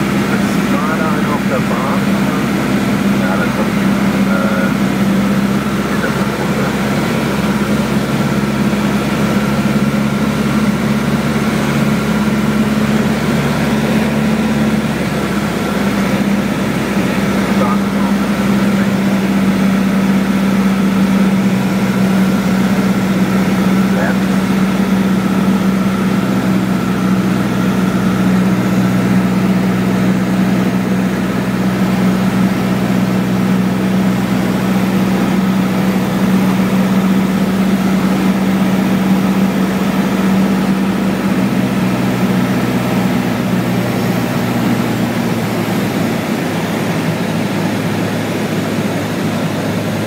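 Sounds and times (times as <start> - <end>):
propeller plane engine droning: 0.0 - 50.0.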